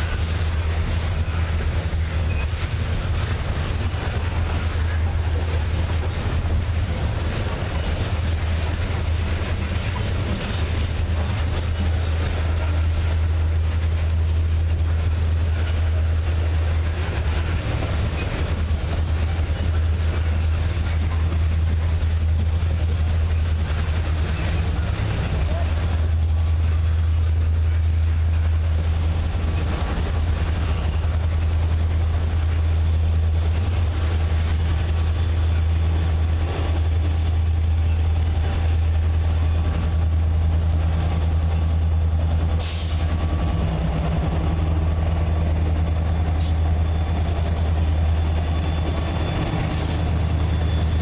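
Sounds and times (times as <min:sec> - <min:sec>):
locomotive engine idling: 0:00.0 - 0:51.0.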